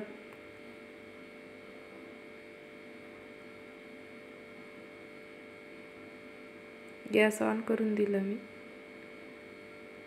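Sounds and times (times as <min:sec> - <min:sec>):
faint electrical hum: 0:00.0 - 0:10.0
thin high whine: 0:00.0 - 0:10.0.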